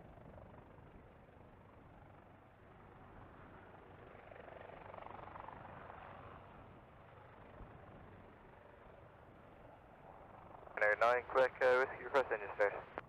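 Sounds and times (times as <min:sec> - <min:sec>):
helicopter rotors and turbines: 0:00.0 - 0:13.0.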